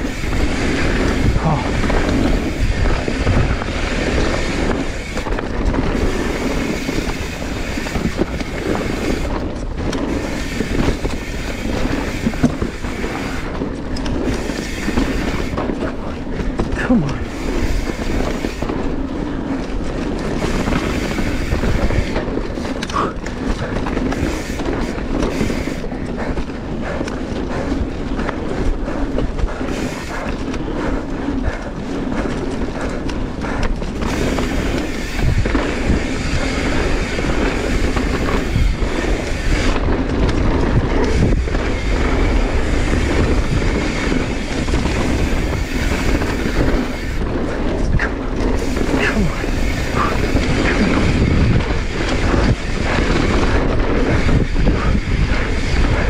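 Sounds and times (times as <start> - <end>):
bike tyre roar on dirt: 0.0 - 56.0
wind buffeting microphone: 0.0 - 56.0.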